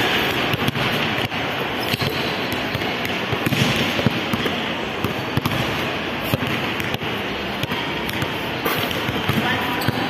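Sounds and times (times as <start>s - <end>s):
steady background noise: 0.0s - 10.0s.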